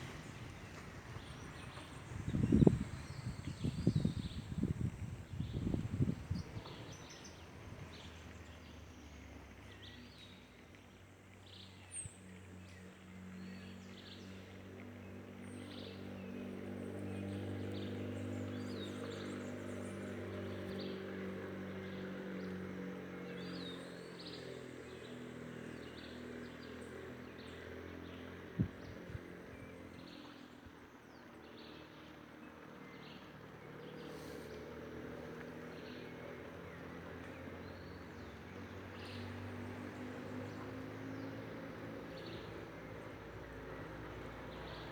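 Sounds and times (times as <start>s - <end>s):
low engine hum: 0.0s - 44.9s.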